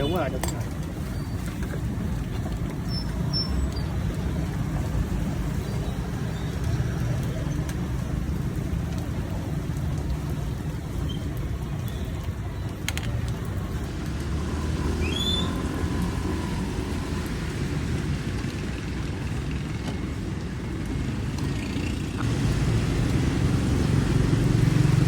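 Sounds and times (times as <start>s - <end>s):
heavy rain: 0.0s - 25.0s
passing street traffic: 0.0s - 25.0s.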